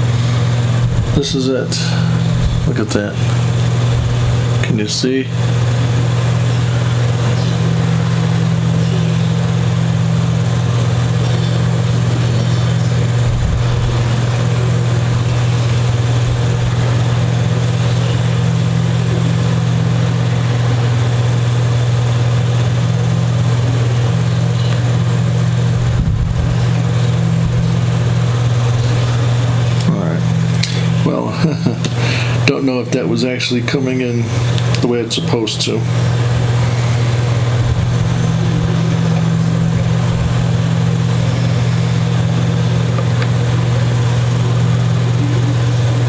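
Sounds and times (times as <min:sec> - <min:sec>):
low machine hum: 0:00.0 - 0:46.0.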